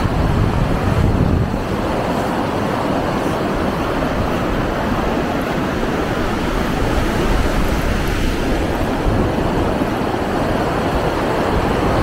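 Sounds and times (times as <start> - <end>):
river rushing over boulders: 0.0 - 12.0
wind buffeting microphone: 0.0 - 12.0.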